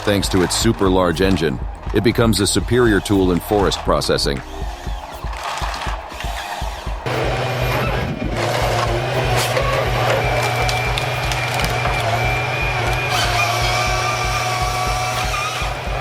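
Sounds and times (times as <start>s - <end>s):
tree-cutting machine engine drone: 0.0s - 16.0s.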